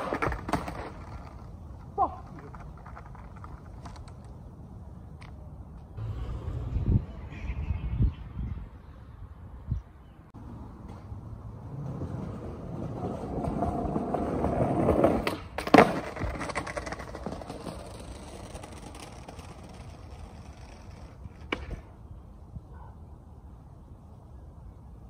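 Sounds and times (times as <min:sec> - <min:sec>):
skateboard wheels rolling on asphalt: 0:00.0 - 0:22.6.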